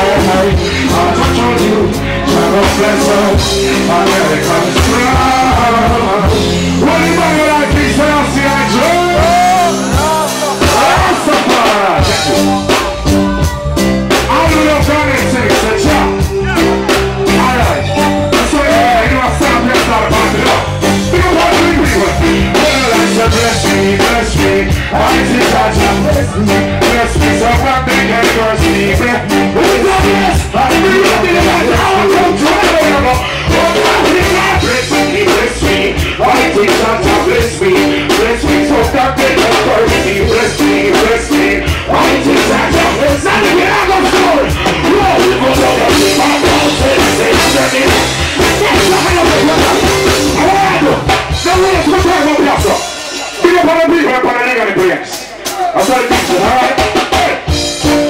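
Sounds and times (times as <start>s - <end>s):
person singing: 0.0s - 58.0s
reggae band playing: 0.0s - 58.0s.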